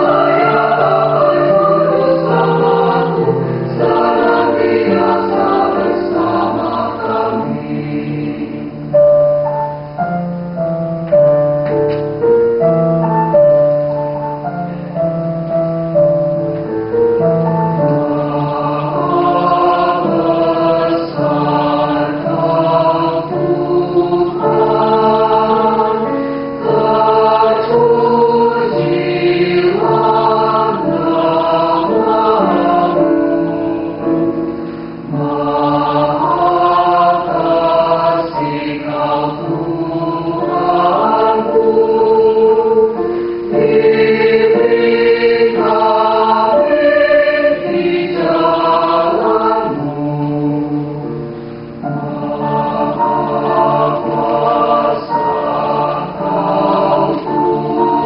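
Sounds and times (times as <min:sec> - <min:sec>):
mixed choir singing: 0:00.0 - 0:09.5, 0:13.6 - 0:58.0.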